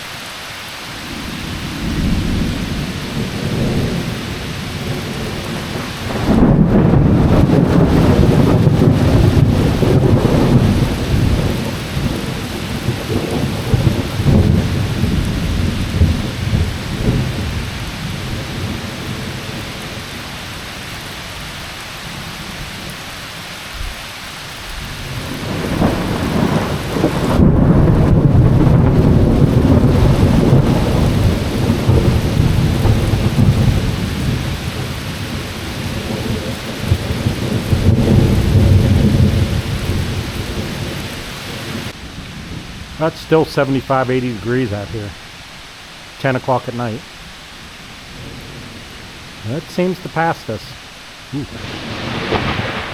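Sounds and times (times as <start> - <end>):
steady rain: 0.0 - 52.9
thunder rumbling: 1.0 - 20.4, 25.0 - 45.4, 46.1 - 52.9.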